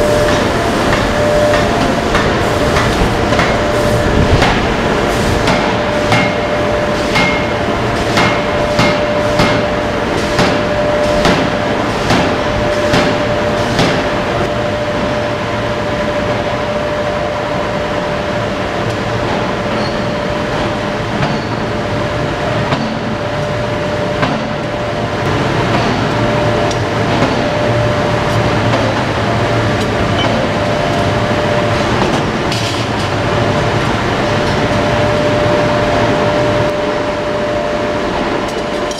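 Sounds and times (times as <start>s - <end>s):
machinery rumble and hum: 0.0s - 38.9s.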